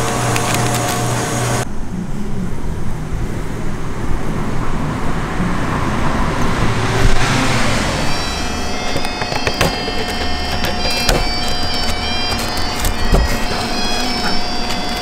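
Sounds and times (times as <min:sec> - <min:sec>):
machine hum: 0:00.0 - 0:15.0
road traffic rumble: 0:00.0 - 0:15.0.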